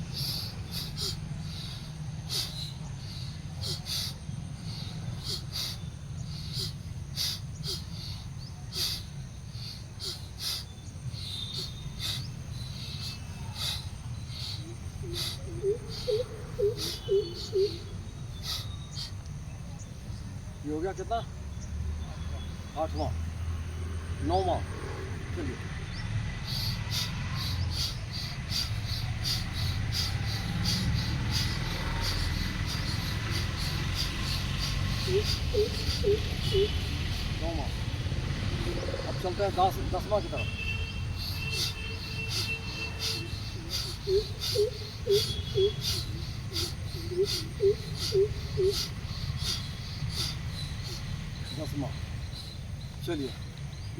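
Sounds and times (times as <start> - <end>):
forceful breathing through nose: 0.0 - 19.3, 25.8 - 52.8.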